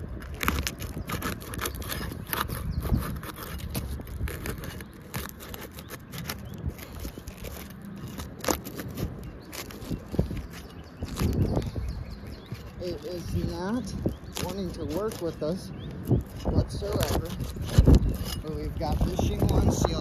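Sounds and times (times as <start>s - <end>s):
shingle scraping and crackling: 0.0s - 20.0s.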